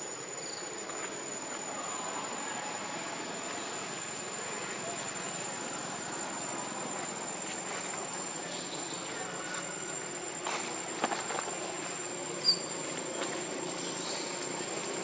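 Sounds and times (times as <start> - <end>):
hissy outdoor background: 0.0 - 15.0
insects buzzing high-pitched: 0.0 - 15.0.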